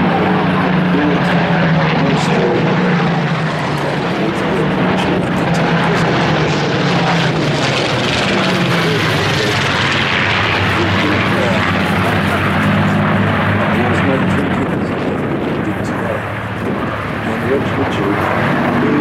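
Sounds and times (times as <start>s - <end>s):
propeller planes droning overhead: 0.0s - 19.0s.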